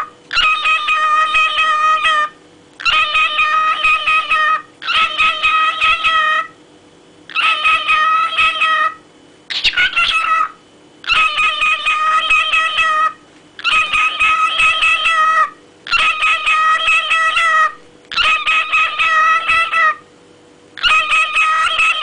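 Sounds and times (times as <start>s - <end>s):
cockatiel whistling: 0.0s - 6.6s, 7.3s - 20.0s, 20.8s - 22.0s.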